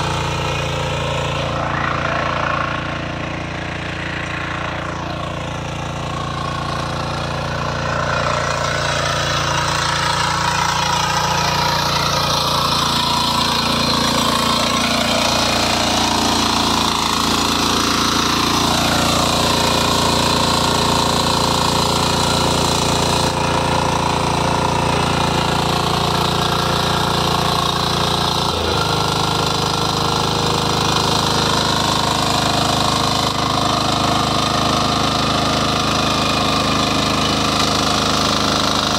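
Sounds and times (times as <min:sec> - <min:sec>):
power weeder engine running: 0:00.0 - 0:38.9.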